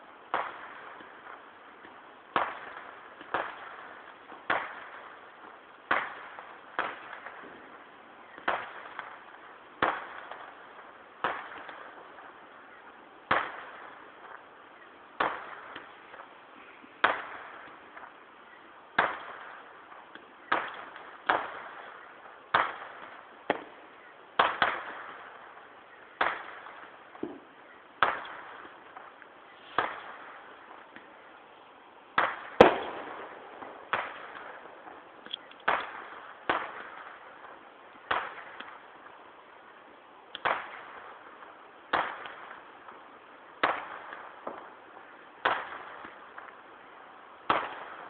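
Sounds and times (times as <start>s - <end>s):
distant fireworks bursting: 0.0s - 48.0s.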